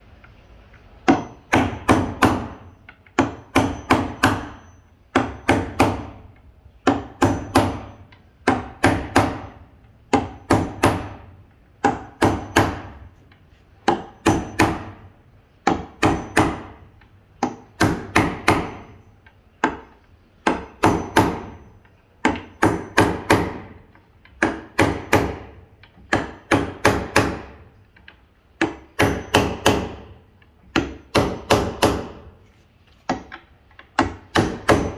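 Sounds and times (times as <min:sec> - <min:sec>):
hammer striking wood: 0:01.0 - 0:13.2, 0:13.8 - 0:27.8, 0:28.6 - 0:32.4, 0:33.0 - 0:34.9.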